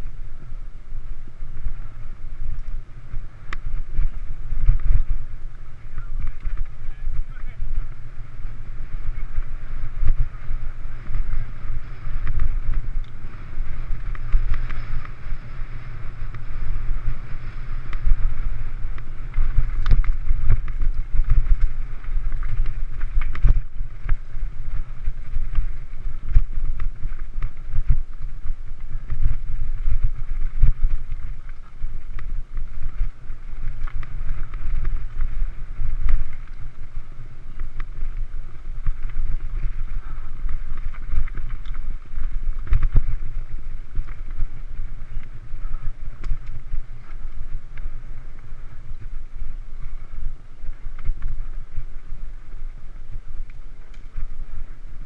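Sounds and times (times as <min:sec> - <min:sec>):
bike rattling over bumps: 0:00.0 - 0:55.0
wind rumble on microphone: 0:00.0 - 0:55.0.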